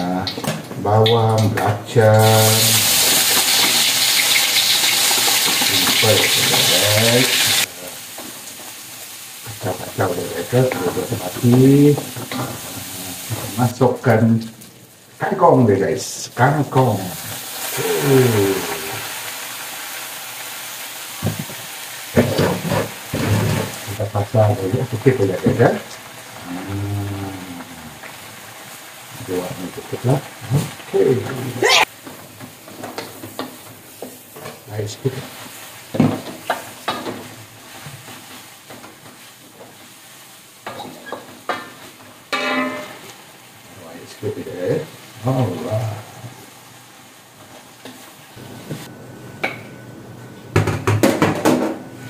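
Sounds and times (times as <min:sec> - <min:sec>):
vegetables sizzling in hot oil: 0:02.2 - 0:48.9.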